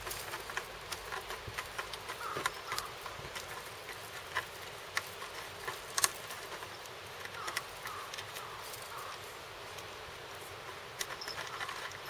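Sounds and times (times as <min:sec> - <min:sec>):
cat claws scratching wood: 0:00.0 - 0:12.0
faint steady hiss: 0:00.0 - 0:12.0.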